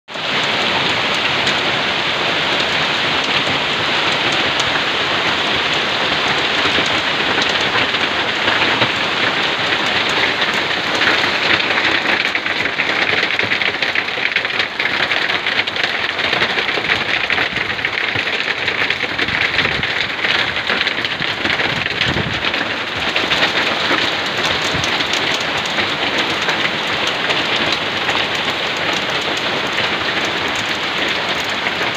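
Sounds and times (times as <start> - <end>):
hail and rain striking ground: 0.1 - 31.9.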